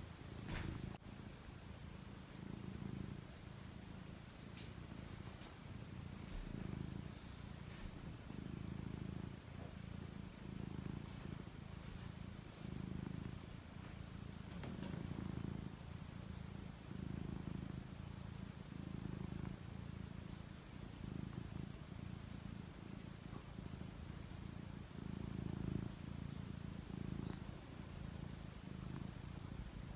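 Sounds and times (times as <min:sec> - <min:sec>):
cat purring: 0:00.0 - 0:29.9.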